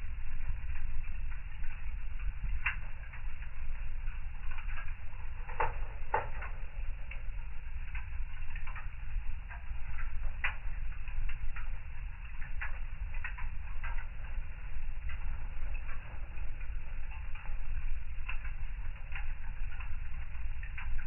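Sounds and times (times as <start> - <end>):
fire crackling and popping: 0.0 - 21.0
low rumble of fire: 0.0 - 21.0.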